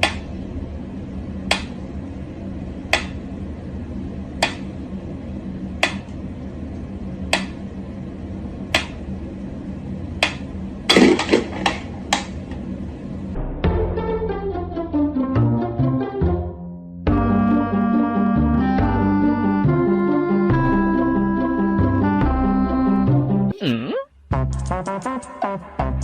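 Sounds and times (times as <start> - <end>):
steady low hum: 0.0 - 15.3, 17.0 - 24.7.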